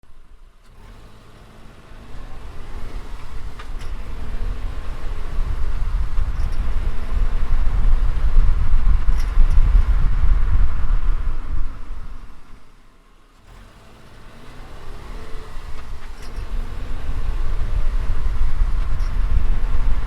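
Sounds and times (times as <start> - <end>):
road noise: 0.0 - 20.0
car engine accelerating: 0.1 - 20.0.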